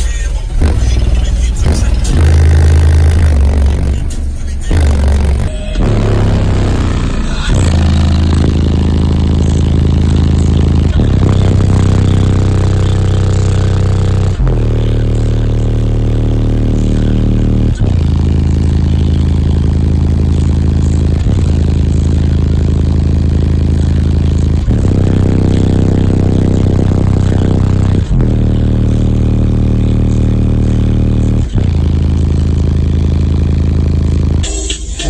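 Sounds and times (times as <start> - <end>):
loud bass-heavy music: 0.0 - 35.0.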